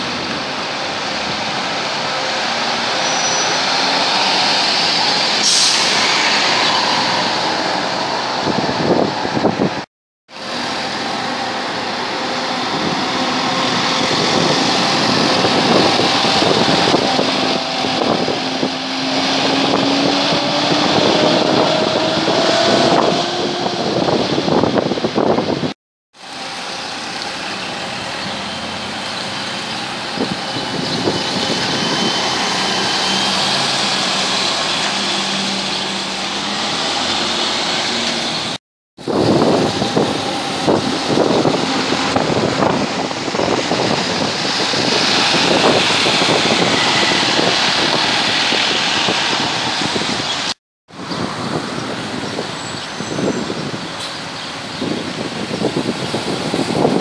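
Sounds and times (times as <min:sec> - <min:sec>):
bus engine pulling away: 0:00.0 - 0:57.0
street traffic: 0:00.0 - 0:57.0.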